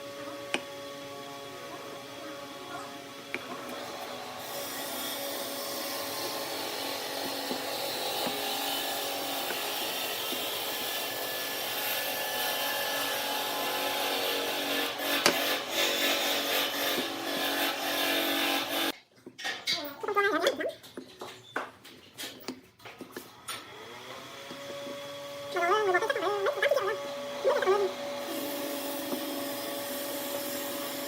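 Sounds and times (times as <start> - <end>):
lathe tool scraping wood: 0.5 - 19.0, 23.7 - 31.0.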